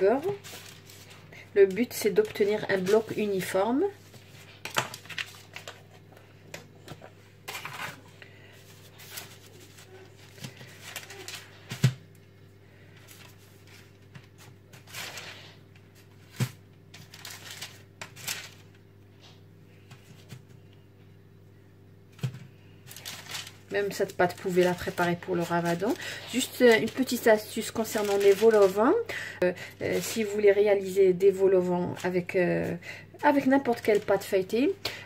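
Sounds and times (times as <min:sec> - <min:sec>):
parchment paper rustling: 0:00.0 - 0:20.7, 0:22.2 - 0:34.5
steady low hum: 0:00.0 - 0:35.0.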